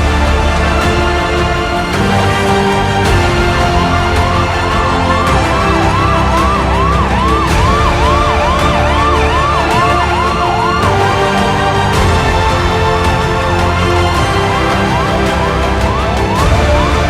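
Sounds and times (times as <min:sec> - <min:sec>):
background music: 0:00.0 - 0:17.0
emergency siren yelping: 0:01.8 - 0:17.0.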